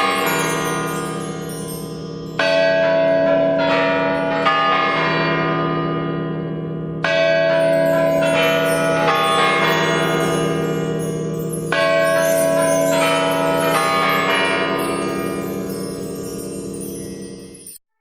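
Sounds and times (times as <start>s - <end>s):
deep bell ringing: 0.0s - 17.8s.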